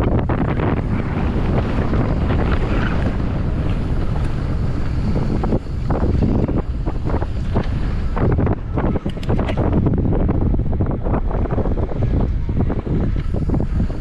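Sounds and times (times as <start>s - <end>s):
bike knocks and rattles: 0.0s - 13.9s
wind buffeting microphone: 0.0s - 14.0s.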